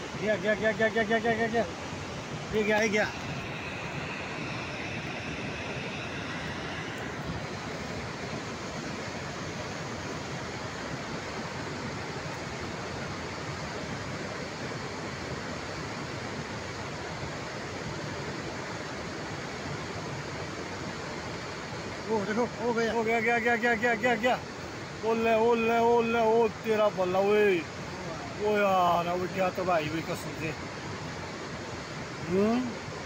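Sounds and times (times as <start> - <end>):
river in flood rushing: 0.0 - 33.0.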